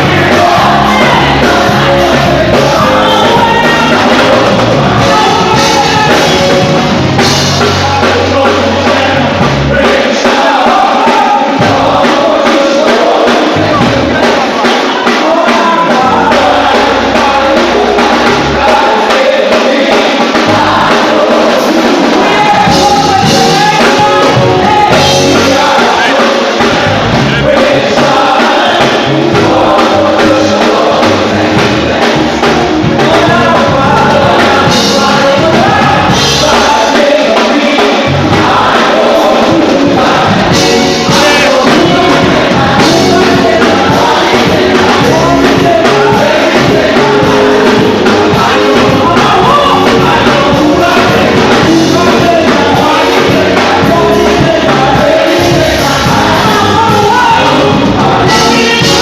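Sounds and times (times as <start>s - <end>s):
backing band: 0.0s - 59.0s
gospel choir singing: 0.0s - 59.0s.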